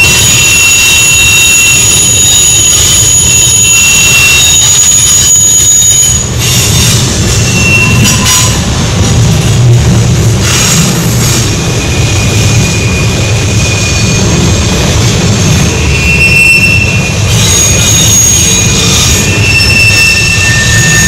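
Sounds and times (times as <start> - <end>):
train wheels squealing on rails: 0.0 - 9.5, 10.4 - 21.0
low rumble of rolling train cars: 0.0 - 21.0.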